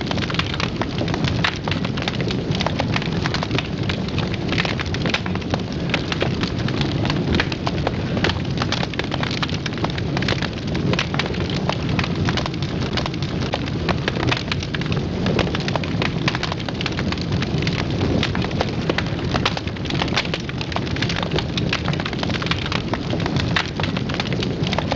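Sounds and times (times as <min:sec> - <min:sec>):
low rumble of flames: 0:00.0 - 0:24.9
wood fire crackling: 0:00.0 - 0:24.9.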